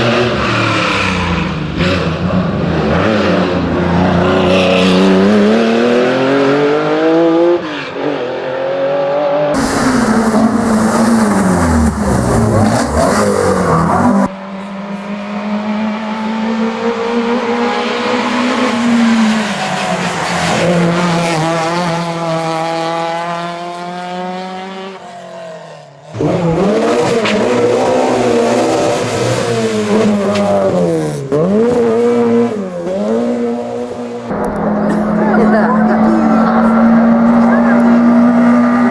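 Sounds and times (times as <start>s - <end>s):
racing car engines revving: 0.0s - 38.9s.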